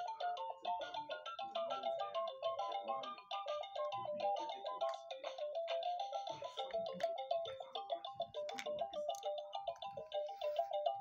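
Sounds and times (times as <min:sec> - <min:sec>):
electronic toy beeping melody: 0:00.0 - 0:11.0.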